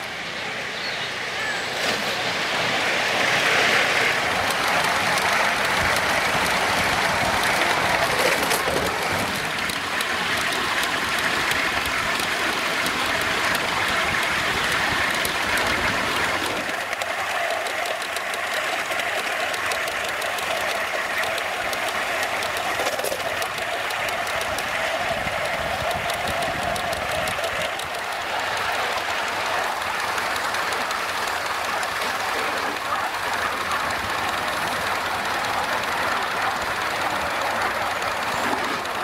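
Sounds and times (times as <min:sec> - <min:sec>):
model steam engine running: 0:00.0 - 0:39.0
fine clicking: 0:03.8 - 0:39.0.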